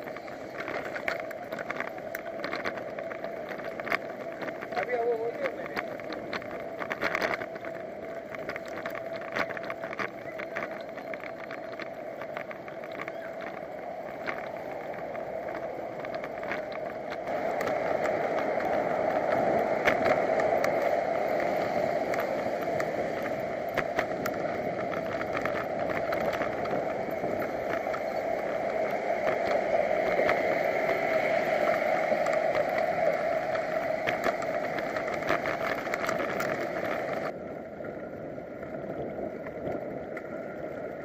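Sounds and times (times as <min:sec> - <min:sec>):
bicycle road noise: 0:00.0 - 0:41.0
rushing wind: 0:00.0 - 0:41.0.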